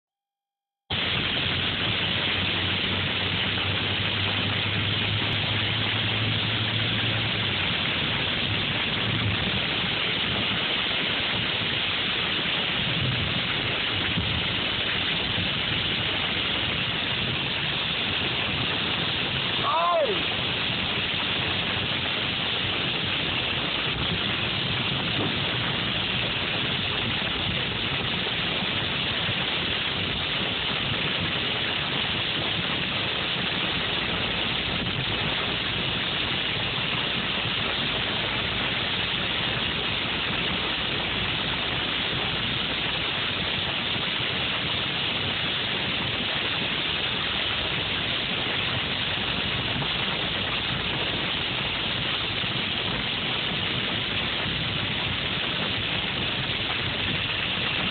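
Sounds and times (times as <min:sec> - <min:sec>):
heavy rain on car roof: 0:00.9 - 0:57.9
tyre and road noise: 0:00.9 - 0:57.9.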